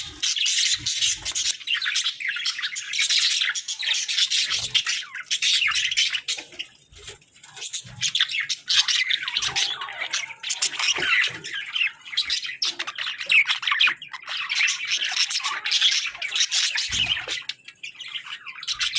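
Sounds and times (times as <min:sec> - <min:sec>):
budgerigars chattering and warbling: 0:00.0 - 0:18.9.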